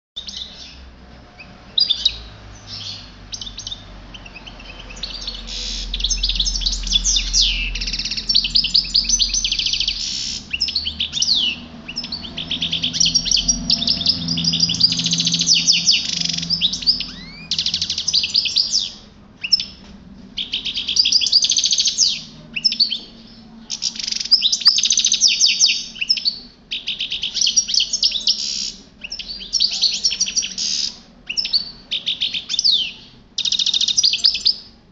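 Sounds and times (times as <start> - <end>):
goldfinch singing: 0.2 - 19.8, 20.4 - 34.7.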